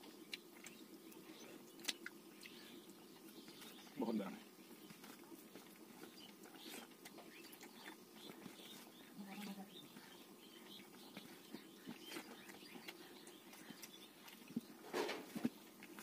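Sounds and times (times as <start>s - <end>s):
wet chewing and lip-smacking: 0.0s - 3.9s, 4.6s - 9.1s, 9.7s - 14.8s.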